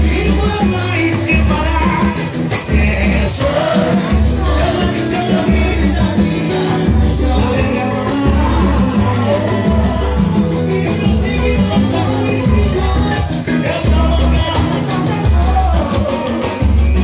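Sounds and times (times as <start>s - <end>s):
acoustic guitar: 0.0s - 17.0s
bass notes: 0.0s - 17.0s
man singing: 0.0s - 17.0s
percussion beat: 0.0s - 17.0s.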